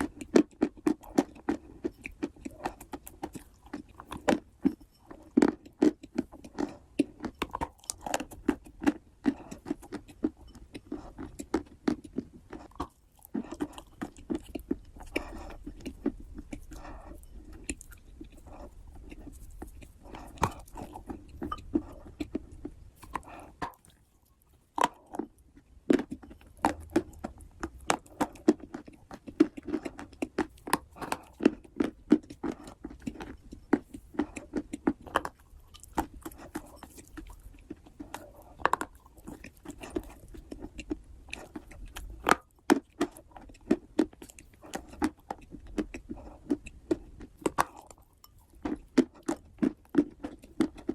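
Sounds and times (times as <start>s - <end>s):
person chewing wet clay: 0.0s - 50.9s.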